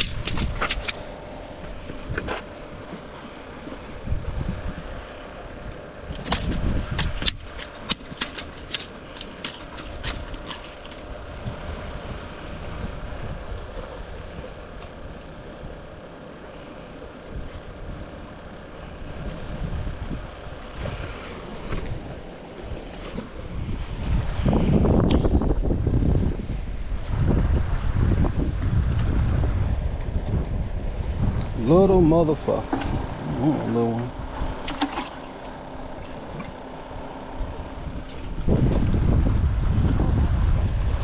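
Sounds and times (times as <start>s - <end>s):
wind buffeting the microphone: 0.0s - 8.8s, 9.7s - 14.8s, 17.3s - 22.3s, 23.0s - 41.0s.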